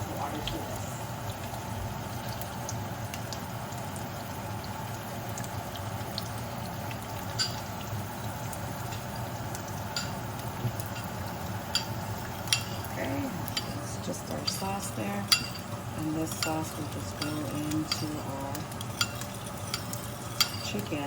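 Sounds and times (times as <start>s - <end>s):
garlic and ginger sizzling in oil: 0.0s - 21.0s.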